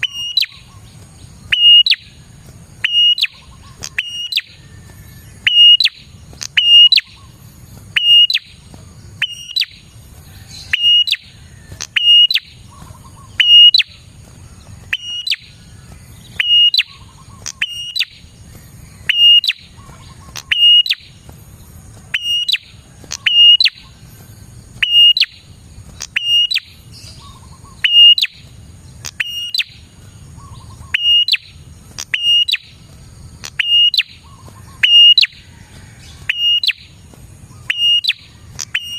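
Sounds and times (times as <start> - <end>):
bird chirping sharply: 0.0 - 2.2, 2.8 - 14.1, 14.7 - 21.3, 22.1 - 24.0, 24.8 - 32.8, 33.4 - 35.4, 36.2 - 36.9, 37.5 - 38.9.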